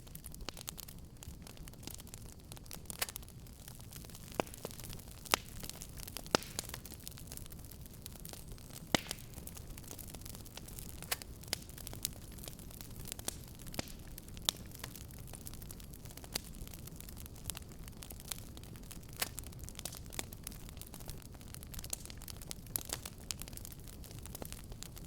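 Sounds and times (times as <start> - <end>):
low rumble of flames: 0.0 - 25.0
wood fire crackling: 0.0 - 25.0.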